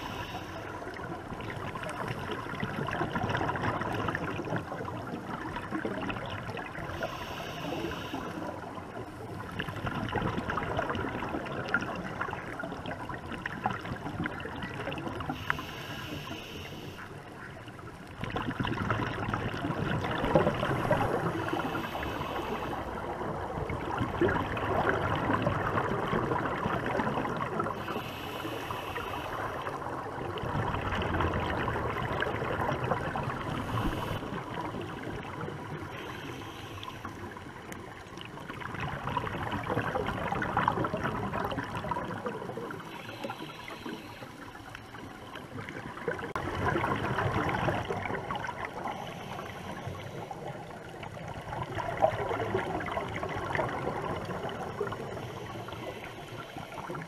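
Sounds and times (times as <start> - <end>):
underwater regulator bubbles gurgling: 0.0 - 57.0.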